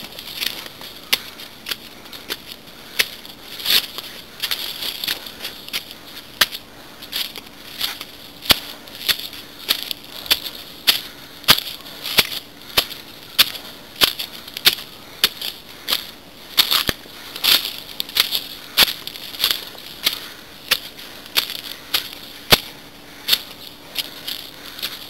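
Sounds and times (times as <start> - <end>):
footsteps on gritty stone steps: 0.0 - 25.0.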